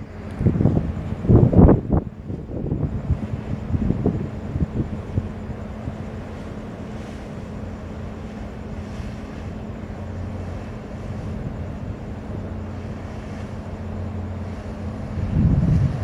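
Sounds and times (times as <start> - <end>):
wind noise on microphone: 0.0 - 7.2, 8.7 - 16.0
ship engines droning: 0.0 - 16.0.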